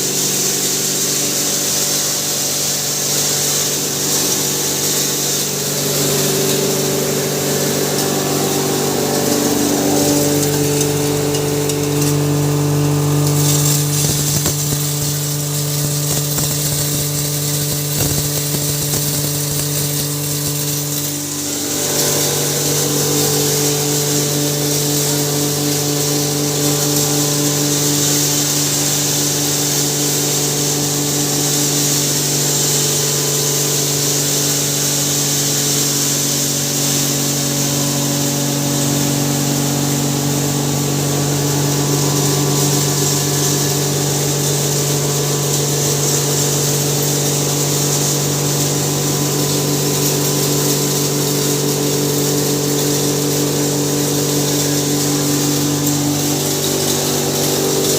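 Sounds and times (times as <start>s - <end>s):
grinder machine hum: 0.0s - 57.9s.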